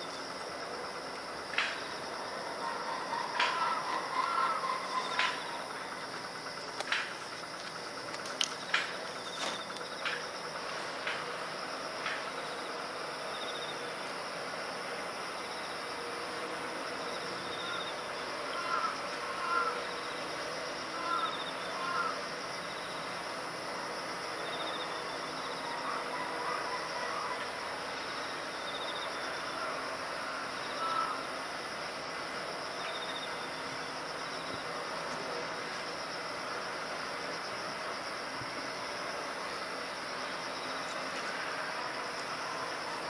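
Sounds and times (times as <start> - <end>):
high-pitched insect chorus: 0.0 - 43.0
trilled insect chirp: 0.0 - 43.0.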